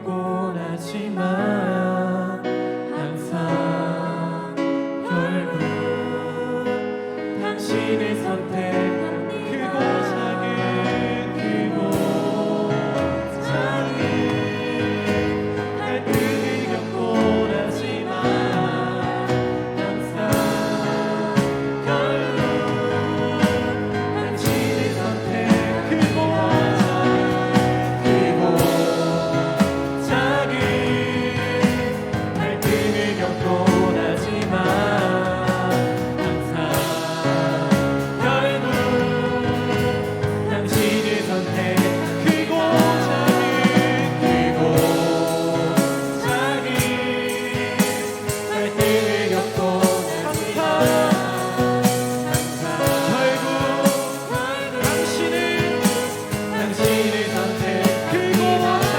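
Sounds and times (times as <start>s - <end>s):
voices singing slow melody: 0.0s - 58.9s
instrumental accompaniment with beat: 10.9s - 58.9s.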